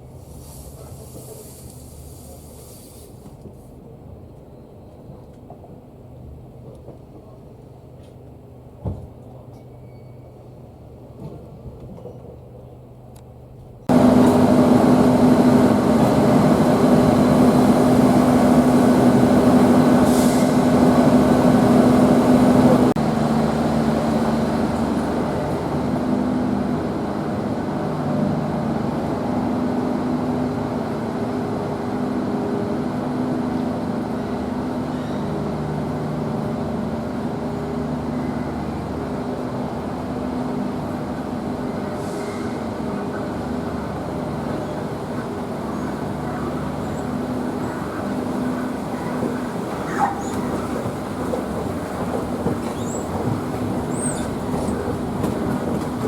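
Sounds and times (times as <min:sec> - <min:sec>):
diesel locomotive engine humming: 0:00.0 - 0:56.0.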